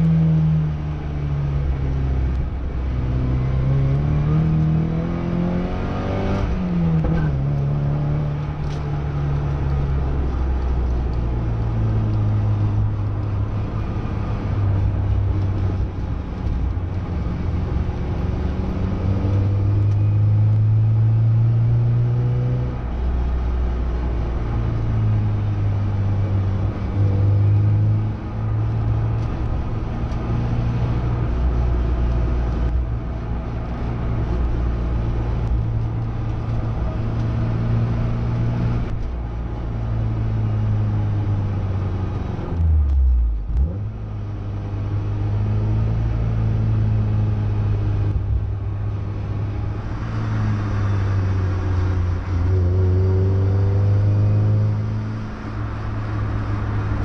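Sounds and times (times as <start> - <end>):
car engine heard from cabin: 0.0 - 57.0.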